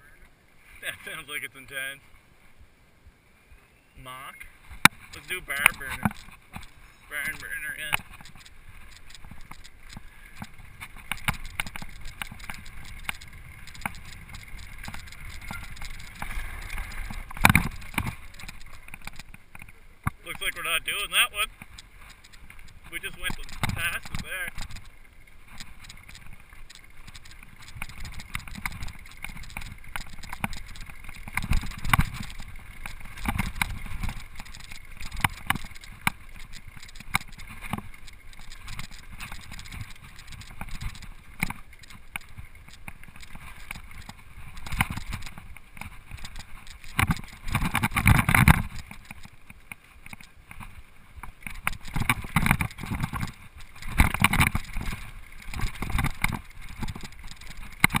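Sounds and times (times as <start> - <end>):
mountain bike rattling and clattering: 4.7 - 58.0.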